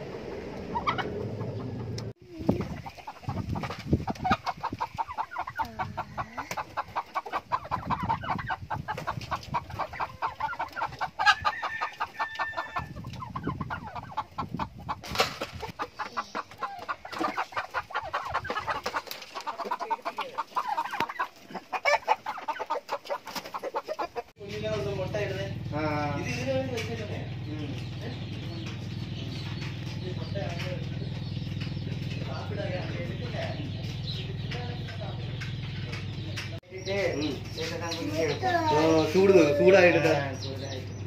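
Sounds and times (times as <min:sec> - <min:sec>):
chickens clucking: 0:00.0 - 0:41.0.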